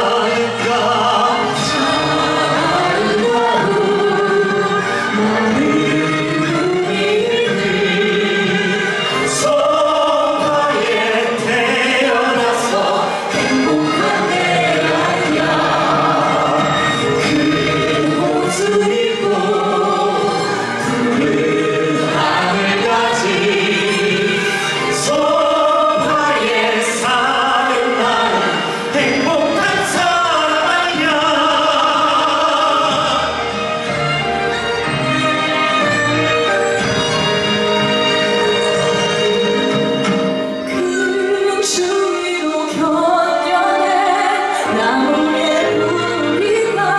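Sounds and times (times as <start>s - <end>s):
group of singers singing: 0.0s - 33.8s, 34.4s - 46.9s
instrumental accompaniment: 0.0s - 46.9s.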